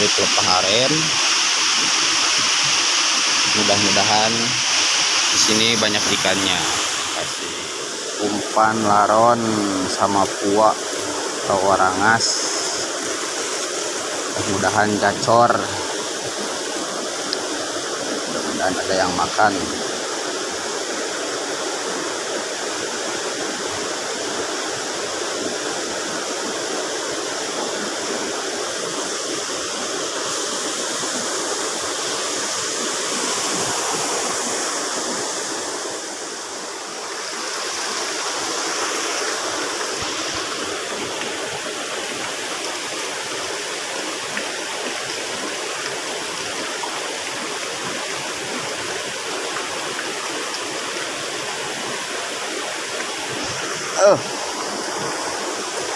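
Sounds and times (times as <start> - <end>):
river flowing: 0.0 - 55.9.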